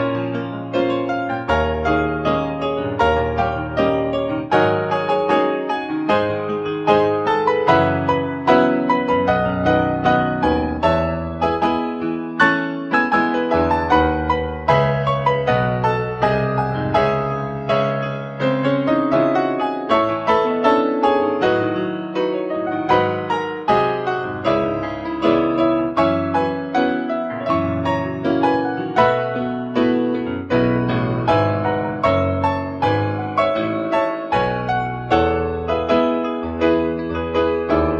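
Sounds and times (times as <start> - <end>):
slow solo piano piece: 0.0 - 37.9.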